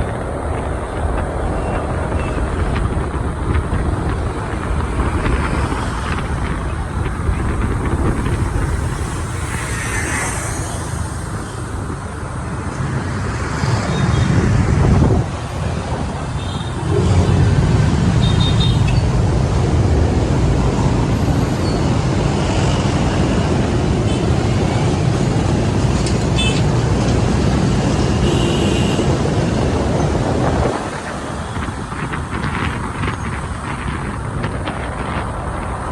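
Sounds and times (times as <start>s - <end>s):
street traffic rumble: 0.0s - 35.9s.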